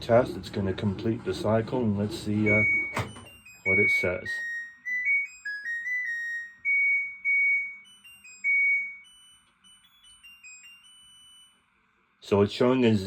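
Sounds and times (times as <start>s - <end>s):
washing machine beeping melody: 0.0s - 12.2s.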